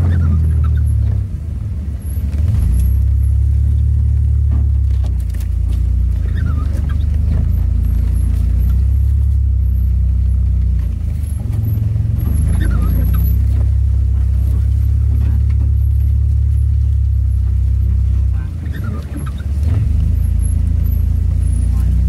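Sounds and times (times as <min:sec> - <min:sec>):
brief squeaks: 0:00.0 - 0:01.3, 0:02.1 - 0:10.0, 0:11.1 - 0:22.0
engine and road rumble: 0:00.0 - 0:22.0.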